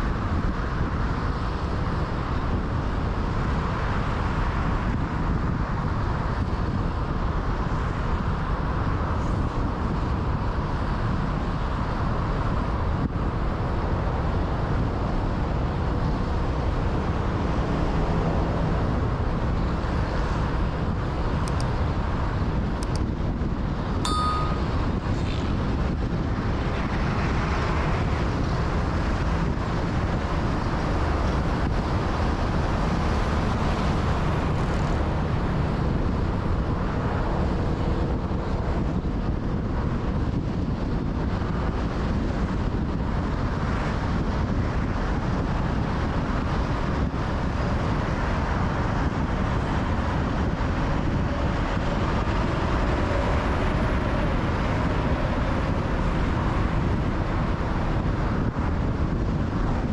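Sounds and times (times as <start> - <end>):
car road noise rumble: 0.0 - 59.9.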